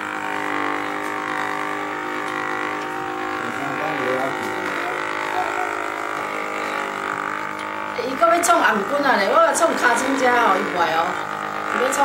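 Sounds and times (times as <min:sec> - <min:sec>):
electric massager motor hum: 0:00.0 - 0:12.0.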